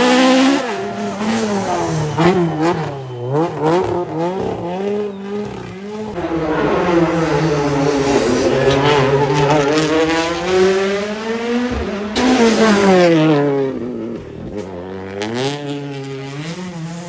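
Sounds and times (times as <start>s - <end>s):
rally car engine at full throttle: 0.0s - 17.0s.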